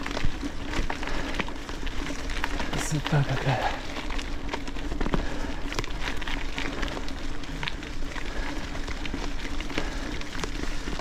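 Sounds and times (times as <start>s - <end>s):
tyres crackling over wet ground: 0.0s - 11.0s.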